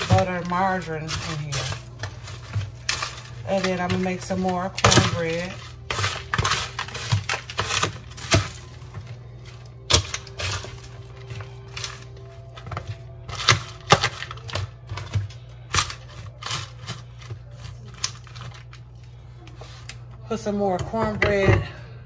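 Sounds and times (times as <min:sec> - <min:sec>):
spatula scraping foil pan: 0:00.0 - 0:08.8, 0:09.4 - 0:18.8.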